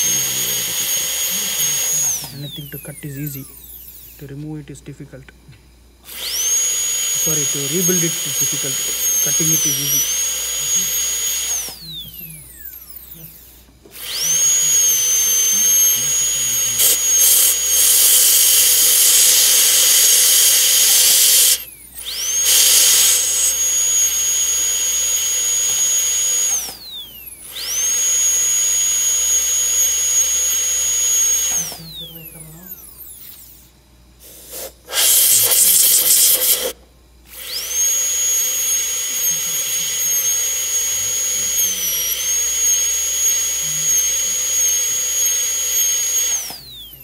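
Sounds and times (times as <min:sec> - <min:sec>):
dental drill whining: 0:00.0 - 0:05.2, 0:06.0 - 0:47.0.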